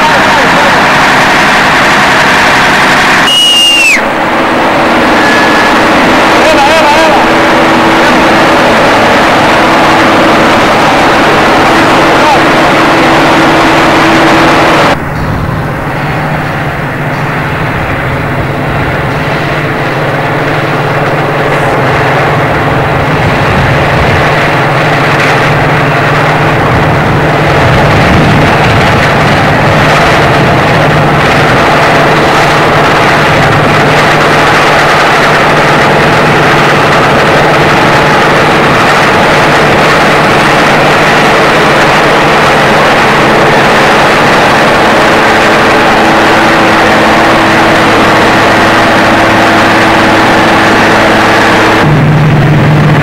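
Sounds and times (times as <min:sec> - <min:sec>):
combine harvester engine drone: 0:00.0 - 0:53.0.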